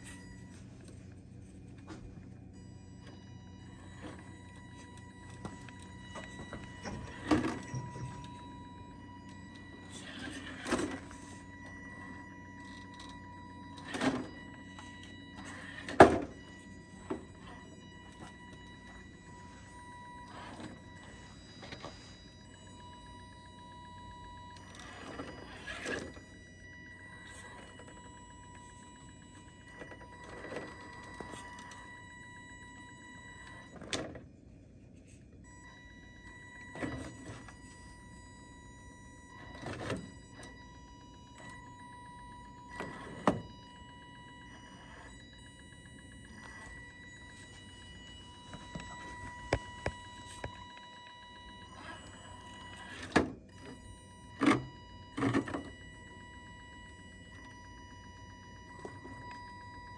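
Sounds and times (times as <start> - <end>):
small electric motor whining: 0.0 - 34.0, 35.4 - 59.9.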